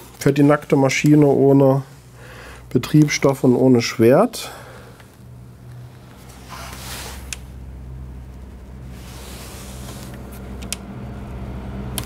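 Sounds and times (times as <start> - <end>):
vehicle engine humming: 1.8 - 12.0.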